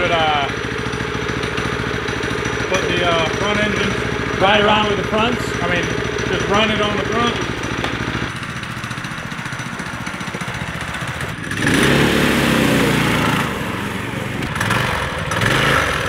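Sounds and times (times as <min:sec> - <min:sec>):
go-kart engines revving: 0:00.0 - 0:16.0.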